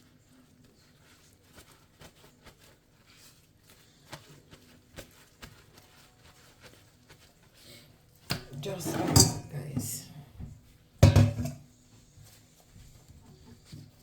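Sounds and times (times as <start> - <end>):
soft taps and rustles of handling meat: 0.0 - 8.8, 9.5 - 14.0.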